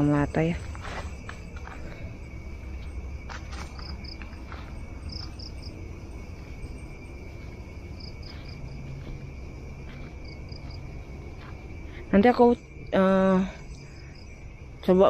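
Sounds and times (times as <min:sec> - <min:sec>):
insect chirps: 0:00.0 - 0:15.0
insects high-pitched drone: 0:00.0 - 0:15.0.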